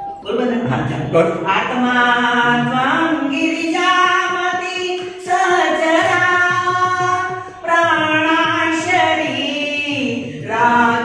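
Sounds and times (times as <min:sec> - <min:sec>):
woman singing a hymn: 0:01.5 - 0:11.0.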